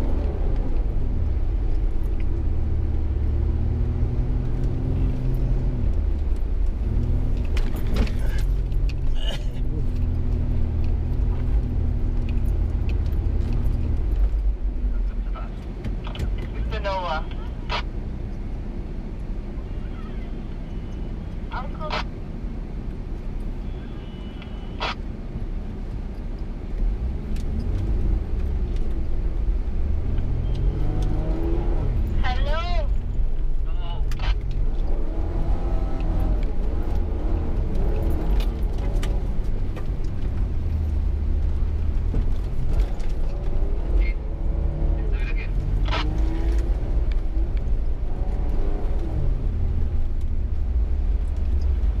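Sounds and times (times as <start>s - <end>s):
vehicle engine rumbling and revving: 0.0s - 52.0s.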